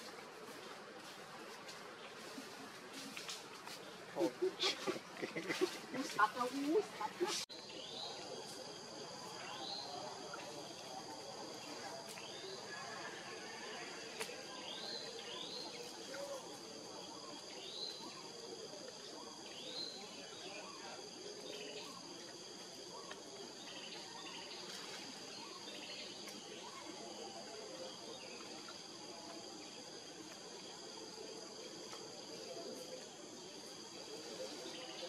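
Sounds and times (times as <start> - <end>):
forest ambience: 0.0 - 35.0.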